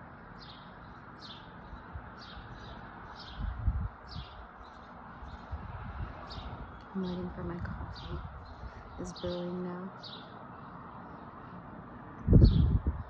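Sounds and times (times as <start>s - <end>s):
bird chirping: 0.0s - 5.6s, 6.2s - 11.6s.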